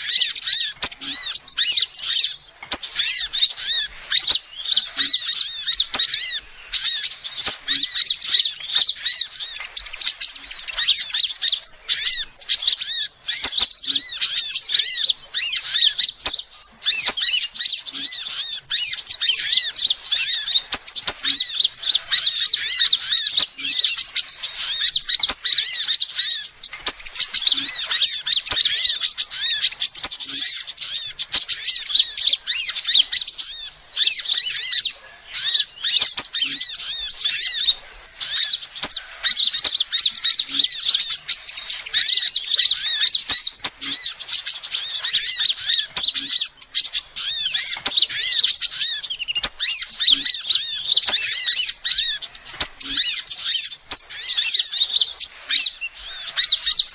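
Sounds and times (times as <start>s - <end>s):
bird calling high thin chirps: 0.0s - 56.9s.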